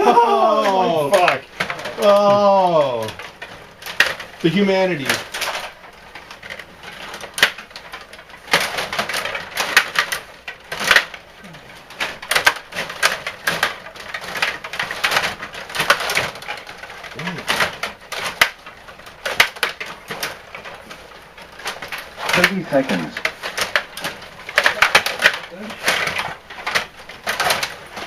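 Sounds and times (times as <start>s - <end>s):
hockey sticks and puck clacking: 0.0s - 28.0s.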